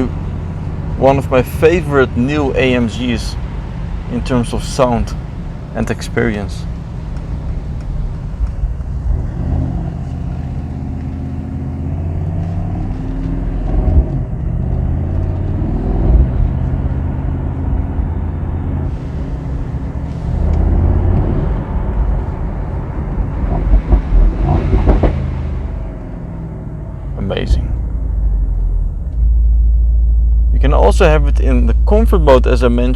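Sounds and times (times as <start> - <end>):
car engine accelerating: 0.0 - 32.9
exhaust crackles: 0.0 - 32.9.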